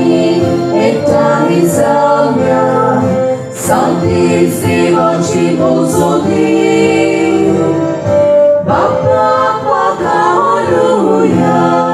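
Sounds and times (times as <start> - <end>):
voices singing a hymn: 0.0 - 11.9.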